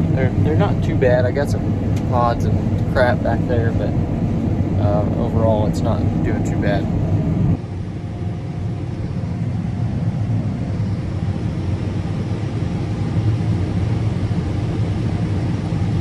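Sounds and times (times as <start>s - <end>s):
combine harvester drone: 0.0s - 16.0s.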